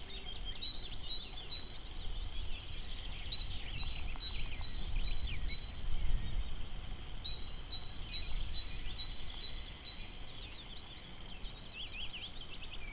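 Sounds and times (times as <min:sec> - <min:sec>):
great tit singing: 0:00.0 - 0:12.9
small birds calling: 0:00.0 - 0:12.9
wind rumble on microphone: 0:00.0 - 0:12.9.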